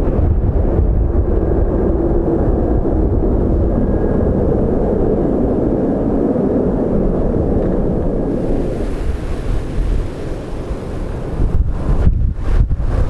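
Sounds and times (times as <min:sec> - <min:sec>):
jet engines roaring: 0:00.0 - 0:13.0
wind rumbling on microphone: 0:00.0 - 0:13.0.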